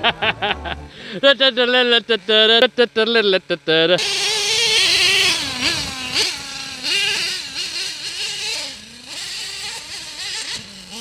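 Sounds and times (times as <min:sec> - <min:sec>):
model car engine revving: 0:01.2 - 0:11.0.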